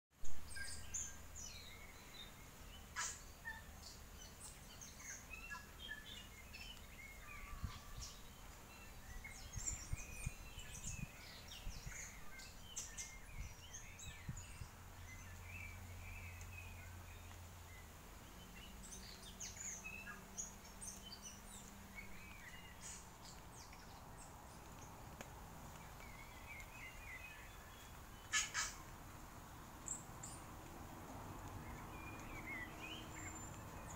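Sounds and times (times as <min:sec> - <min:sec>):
birds chirping and calling: 0:00.4 - 0:33.9.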